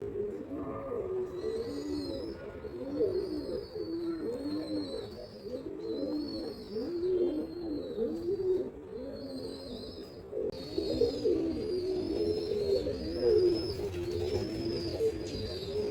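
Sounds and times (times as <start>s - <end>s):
pigeons cooing: 0.0s - 15.9s.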